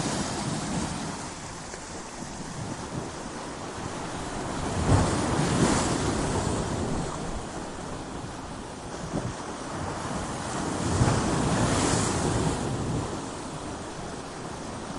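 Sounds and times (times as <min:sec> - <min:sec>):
waves crashing on rocks: 0:00.0 - 0:14.9.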